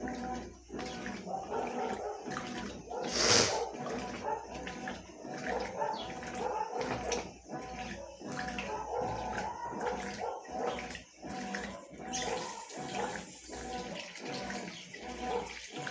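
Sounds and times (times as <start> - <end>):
washing machine churning water: 0.0 - 15.9.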